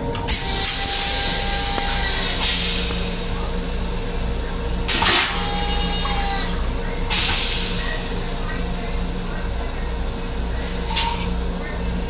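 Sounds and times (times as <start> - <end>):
train car hum: 0.0 - 12.0.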